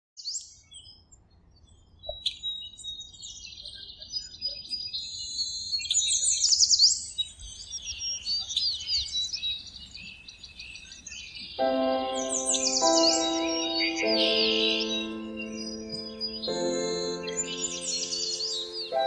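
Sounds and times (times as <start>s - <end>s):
small songbirds chirping: 0.2s - 19.0s.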